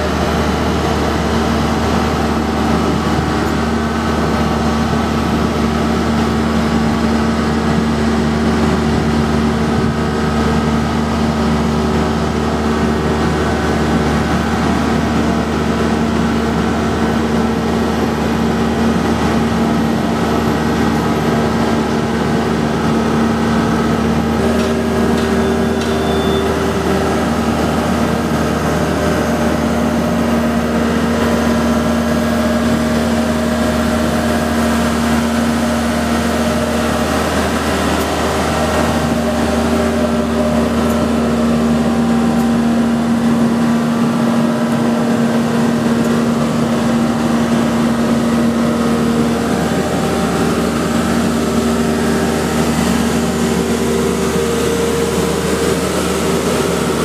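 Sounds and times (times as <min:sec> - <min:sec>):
boat hoist engine droning: 0:00.0 - 0:57.0.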